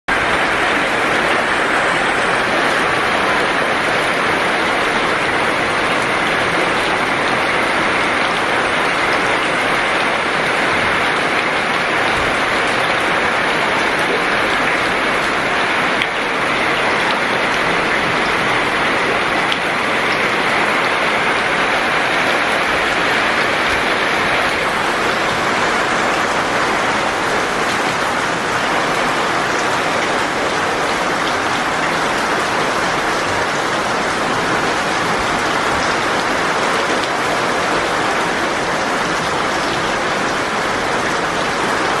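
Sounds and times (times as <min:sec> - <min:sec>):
rain falling on pebbles and paving: 0:00.1 - 0:42.0.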